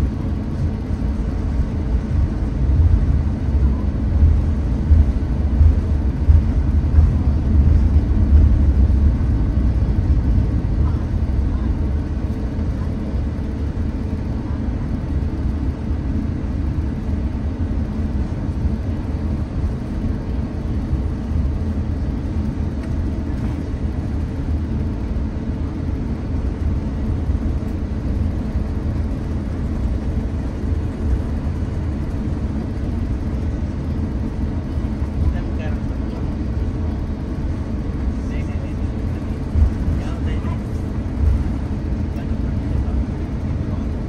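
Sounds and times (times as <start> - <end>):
aircraft cabin low rumble: 0.0 - 44.0.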